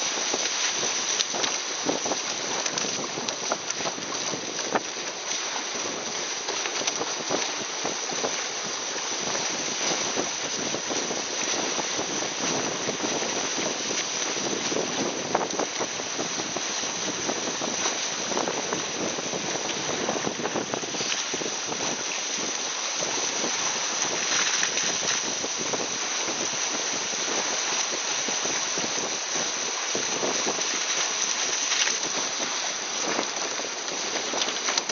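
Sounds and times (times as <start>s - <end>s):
water spraying off boat hull: 0.0s - 34.9s.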